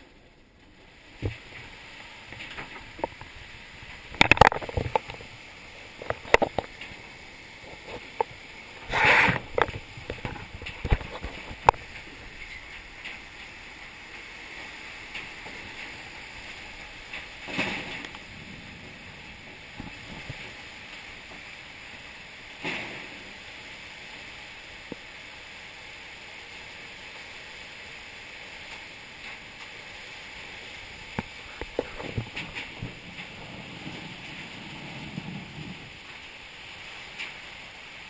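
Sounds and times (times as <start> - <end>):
heavy rain pouring: 0.0 - 38.0
wind: 0.0 - 38.0.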